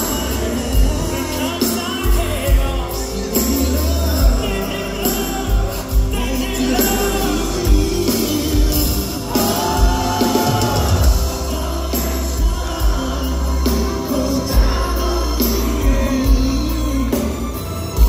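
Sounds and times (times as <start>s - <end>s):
men singing through pa: 0.0s - 17.6s.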